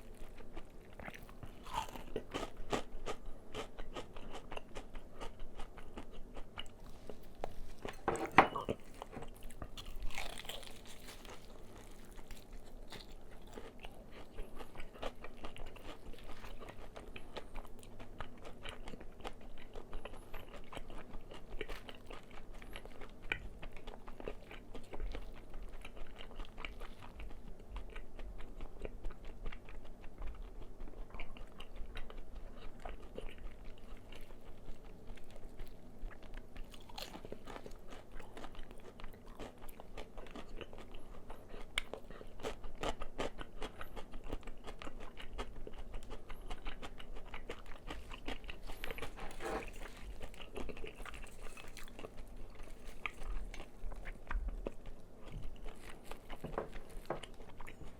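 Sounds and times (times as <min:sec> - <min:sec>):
chewing crunchy fried chicken: 0:00.0 - 0:57.9.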